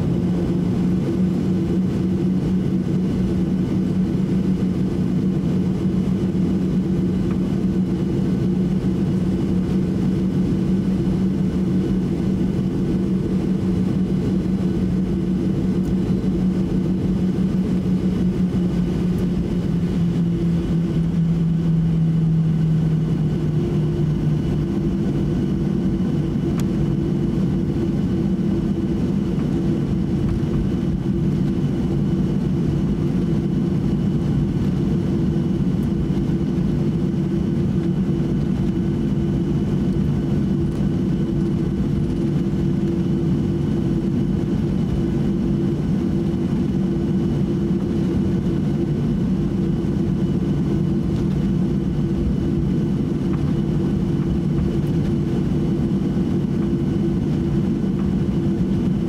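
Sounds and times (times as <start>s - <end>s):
jet engine hum in cabin: 0.0s - 59.0s.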